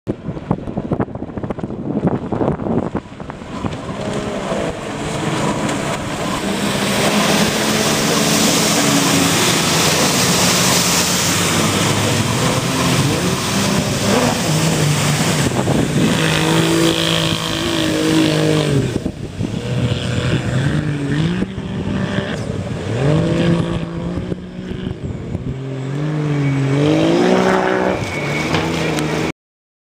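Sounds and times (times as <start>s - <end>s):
jet ski engine revving: 2.6s - 29.3s.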